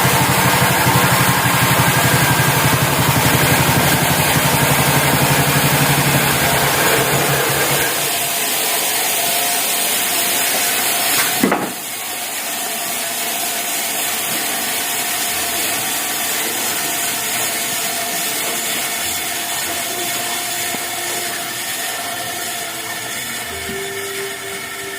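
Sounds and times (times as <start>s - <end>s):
saw blade cutting wood: 0.0s - 12.0s, 14.2s - 24.9s.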